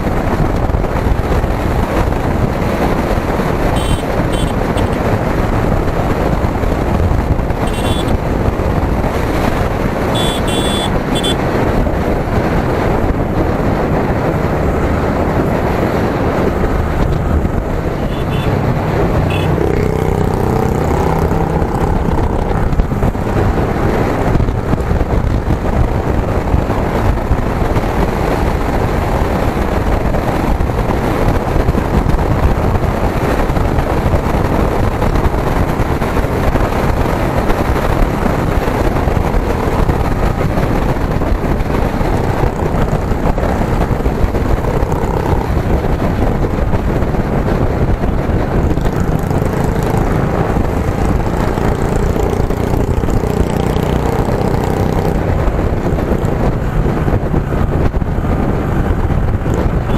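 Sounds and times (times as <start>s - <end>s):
motorcycle engine: 0.0s - 59.9s
surrounding traffic: 0.0s - 59.9s
wind buffeting microphone: 0.0s - 59.9s.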